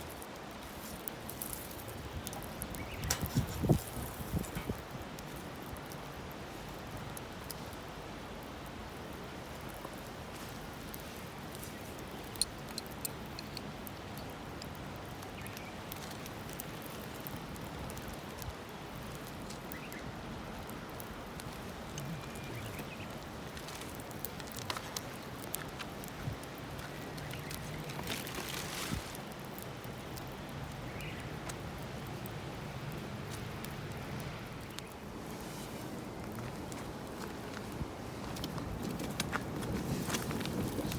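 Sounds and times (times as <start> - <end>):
campfire crackling and popping: 0.0 - 40.9
fire hissing: 0.0 - 40.9.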